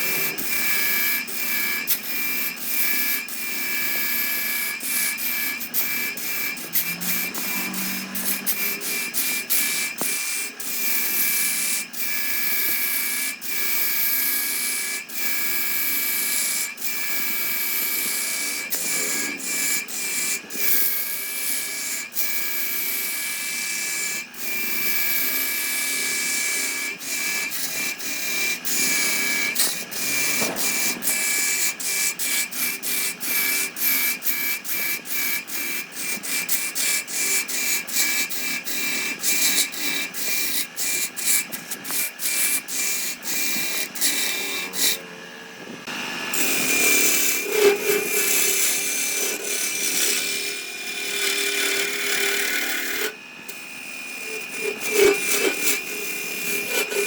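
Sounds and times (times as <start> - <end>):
power tool cutting wood: 0.0 - 57.0.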